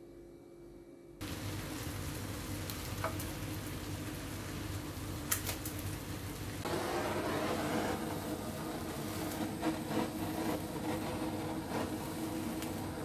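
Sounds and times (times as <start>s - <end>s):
pork chops sizzling in a pan: 1.3s - 13.0s.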